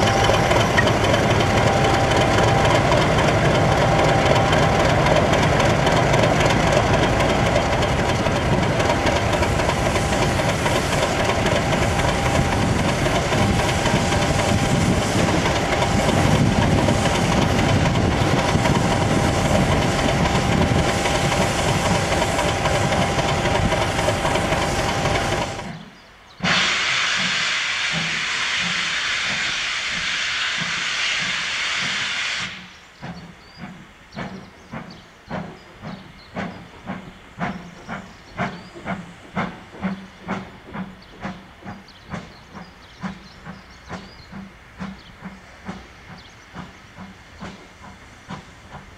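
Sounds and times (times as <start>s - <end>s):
diesel locomotive engine whine: 0.0s - 48.9s
steam hissing: 0.0s - 48.9s.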